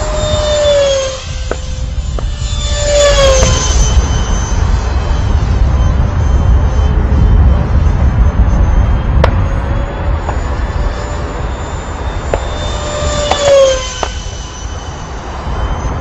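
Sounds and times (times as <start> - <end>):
electric ducted fans whining: 0.0 - 16.0
low wind rumble on microphone: 0.0 - 16.0.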